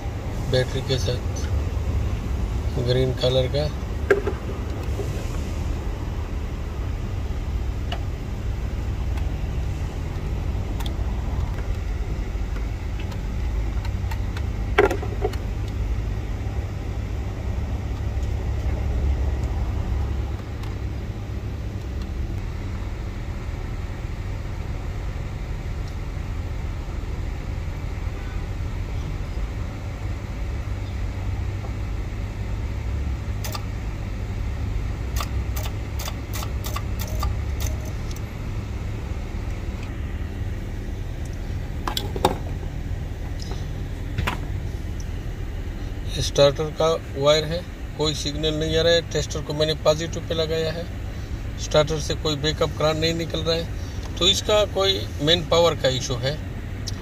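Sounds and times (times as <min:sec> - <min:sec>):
low mechanical rumble: 0:00.0 - 0:57.0.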